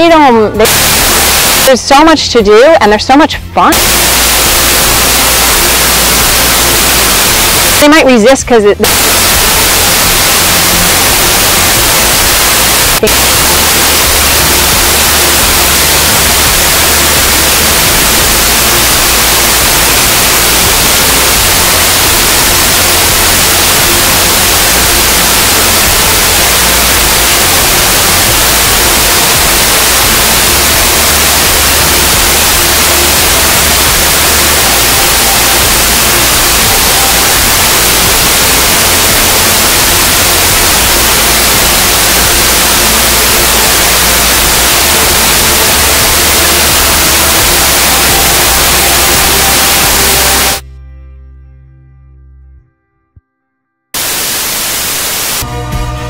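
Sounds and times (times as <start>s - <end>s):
white noise hiss: 0.0s - 50.6s, 54.0s - 55.5s.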